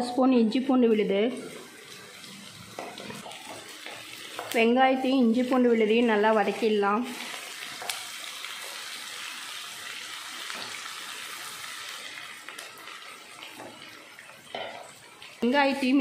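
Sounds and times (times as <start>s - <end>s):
frying hiss: 0.0s - 16.0s.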